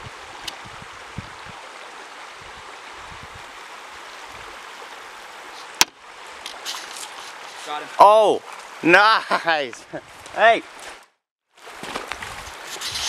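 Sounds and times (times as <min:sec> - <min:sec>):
stream rushing over gravel: 0:00.0 - 0:13.0.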